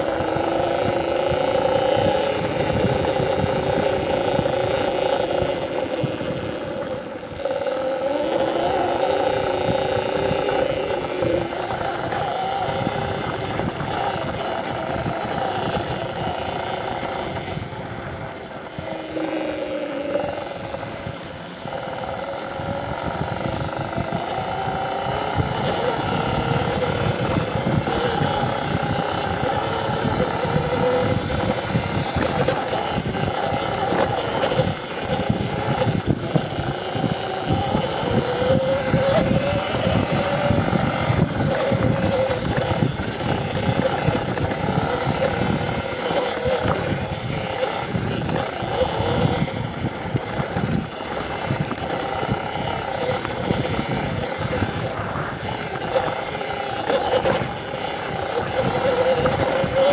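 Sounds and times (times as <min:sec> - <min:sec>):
electric motorbike motor whine: 0:00.0 - 0:59.9
steady rushing noise: 0:00.0 - 0:59.9.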